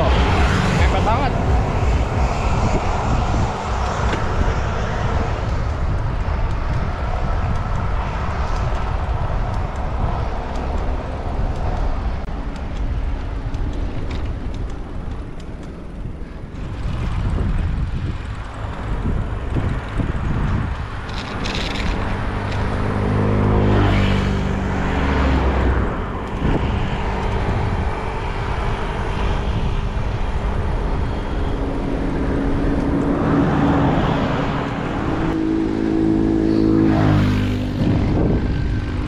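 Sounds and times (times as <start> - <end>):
road and traffic noise: 0.0 - 39.0
wind buffeting microphone: 0.0 - 39.0.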